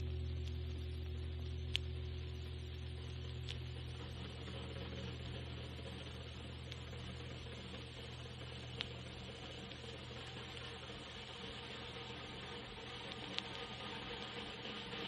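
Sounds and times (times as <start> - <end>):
vinyl crackle clicks: 0.0 - 15.0
vinyl record hiss and hum: 0.0 - 15.0.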